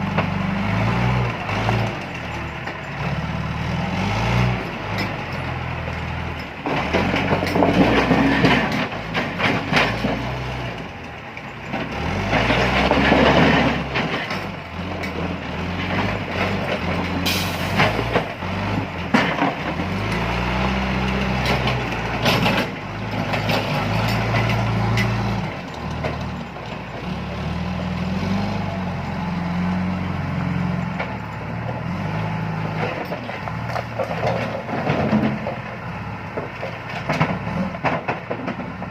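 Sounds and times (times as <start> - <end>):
diesel engine revving: 0.0 - 11.0, 11.6 - 38.8.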